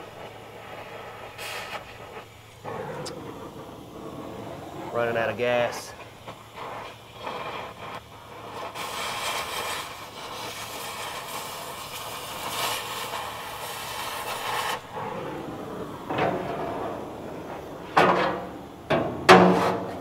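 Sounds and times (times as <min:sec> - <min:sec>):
cutting torch hissing: 0:00.0 - 0:20.0.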